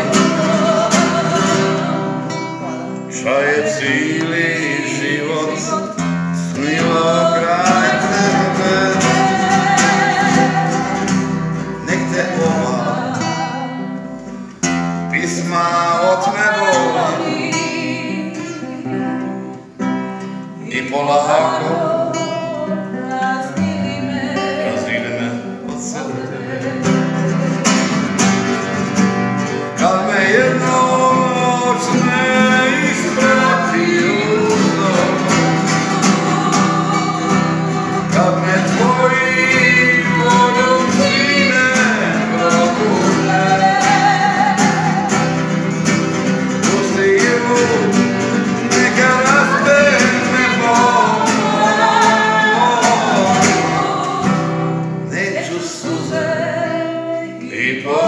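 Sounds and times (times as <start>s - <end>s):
man singing: 0.0s - 13.7s, 15.1s - 19.2s, 20.6s - 28.7s, 29.4s - 54.5s, 55.1s - 58.0s
acoustic guitar: 0.0s - 58.0s.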